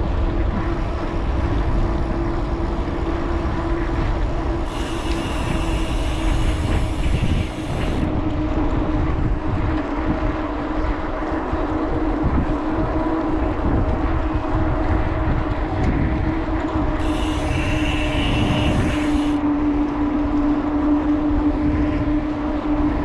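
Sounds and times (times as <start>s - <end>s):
steady hum: 0.0s - 23.0s
wind buffeting microphone: 0.0s - 23.0s.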